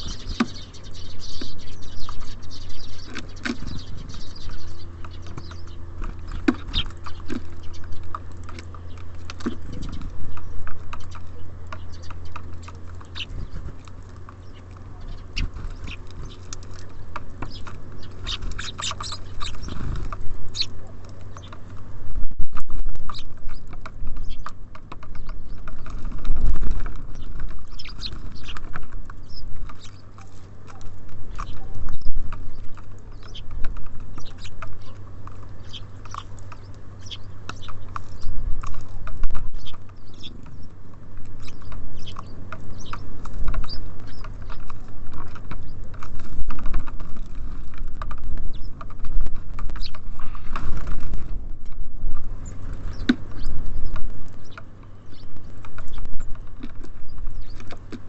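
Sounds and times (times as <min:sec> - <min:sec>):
birds pecking at seed: 0:00.0 - 0:58.0
songbirds chirping: 0:00.0 - 0:58.0
steady low rumble: 0:00.0 - 0:58.0.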